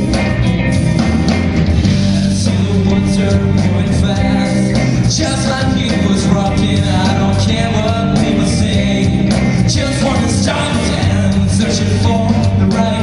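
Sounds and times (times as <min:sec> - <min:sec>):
bass guitar: 0:00.0 - 0:13.0
drums steady beat: 0:00.0 - 0:13.0
electric guitar: 0:00.0 - 0:13.0.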